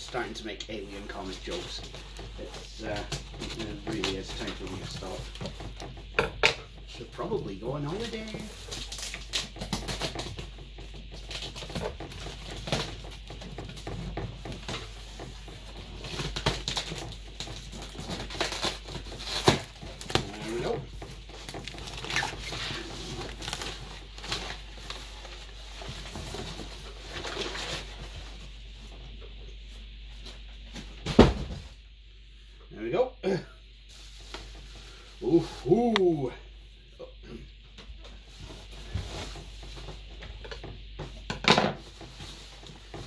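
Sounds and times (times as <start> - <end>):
cardboard and tape rustling: 0.0 - 31.6, 33.9 - 36.4, 37.8 - 43.0.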